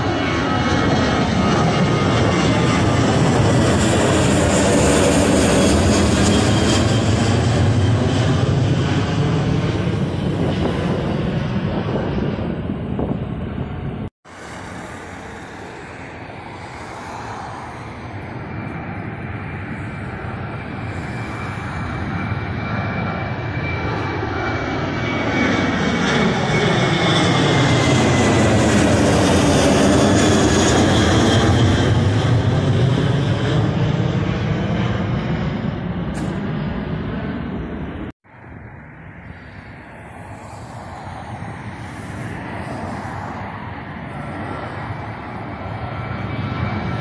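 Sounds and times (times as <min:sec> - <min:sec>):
jet engines roaring overhead: 0:00.0 - 0:47.0
jet whine dropping in pitch: 0:00.0 - 0:47.0.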